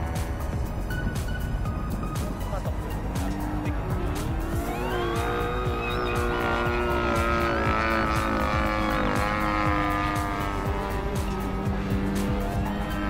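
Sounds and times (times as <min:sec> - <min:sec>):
model plane engine at high throttle: 0:00.0 - 0:13.0.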